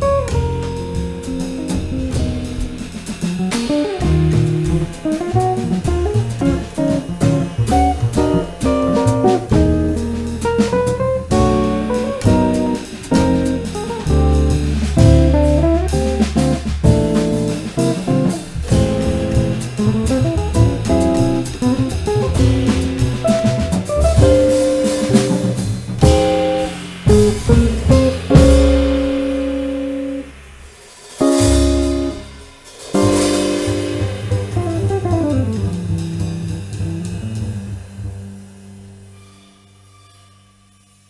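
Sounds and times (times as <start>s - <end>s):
double bass: 0.0s - 39.4s
drum kit: 0.0s - 41.0s.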